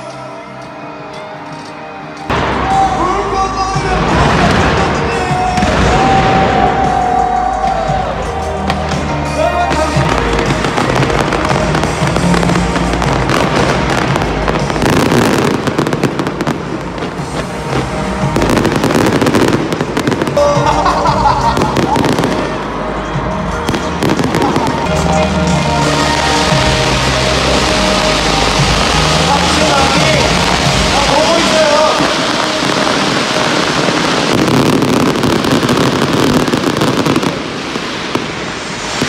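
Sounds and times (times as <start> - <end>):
fireworks bursting and crackling: 2.2 - 39.0.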